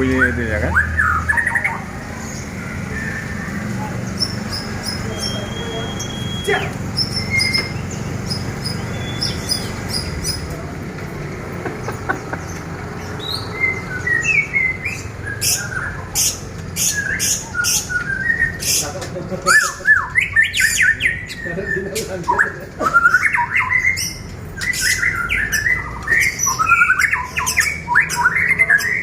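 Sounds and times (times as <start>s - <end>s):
songbirds whistling and chirping: 0.0s - 10.7s, 11.3s - 29.0s
sharp clicking bird calls: 0.0s - 29.0s.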